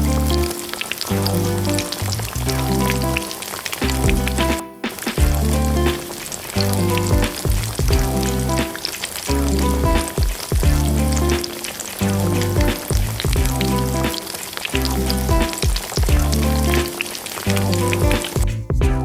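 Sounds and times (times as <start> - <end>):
meat sizzling and crackling: 0.0 - 18.5
background music with bass: 0.0 - 19.0.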